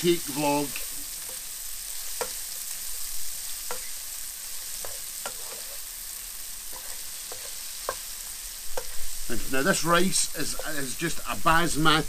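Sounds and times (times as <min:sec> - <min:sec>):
onions sizzling in a frying pan: 0:00.0 - 0:12.0
wooden spoon scraping a pan: 0:00.7 - 0:10.8.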